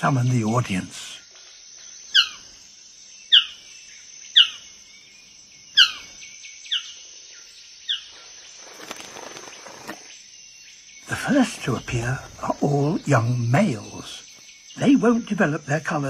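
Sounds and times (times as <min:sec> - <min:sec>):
high insect buzz: 0:00.0 - 0:16.0.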